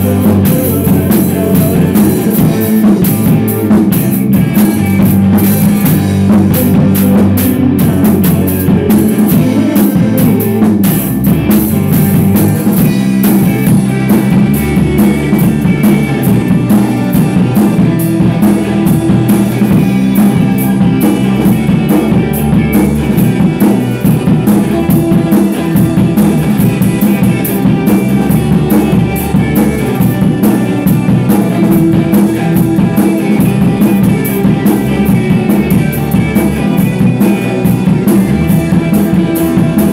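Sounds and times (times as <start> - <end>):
drum kit with cymbals: 0.0 - 39.9
electric guitar: 0.0 - 39.9
low bass notes: 0.0 - 39.9
rock band playing: 0.0 - 39.9.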